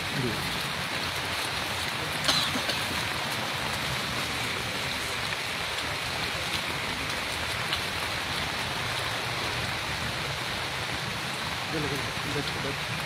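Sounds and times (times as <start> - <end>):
heavy rain: 0.0 - 13.0
raindrops tapping: 0.0 - 13.0.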